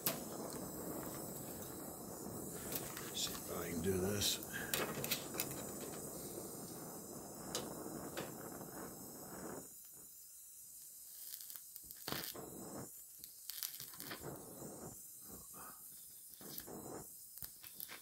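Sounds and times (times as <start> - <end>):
arc welding crackling: 0.0 - 18.0.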